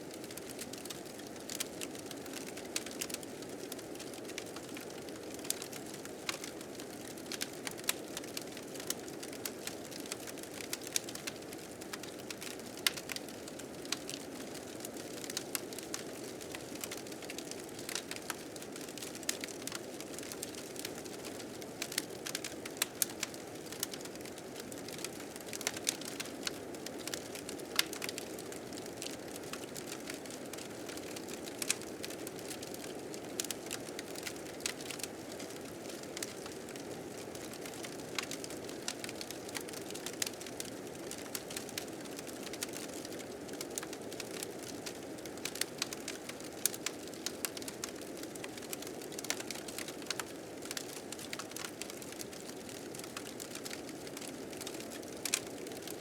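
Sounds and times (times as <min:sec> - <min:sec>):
fire crackling and popping: 0:00.2 - 0:56.0.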